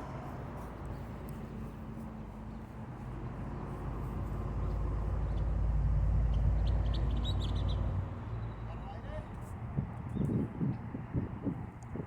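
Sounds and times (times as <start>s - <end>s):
passing vehicle engine rumble: 0.0s - 12.0s.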